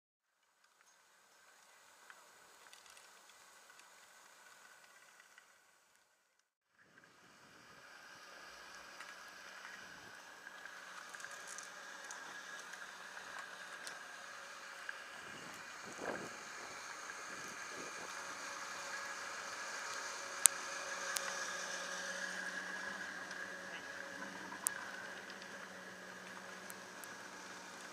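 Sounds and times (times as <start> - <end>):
chairlift machinery hum: 0.4 - 27.9.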